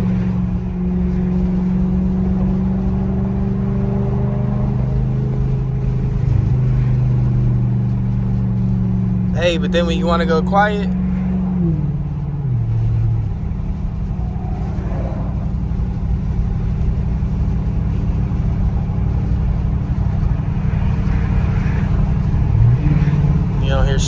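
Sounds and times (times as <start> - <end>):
car engine humming from cabin: 0.0 - 24.0
road noise: 0.0 - 24.0.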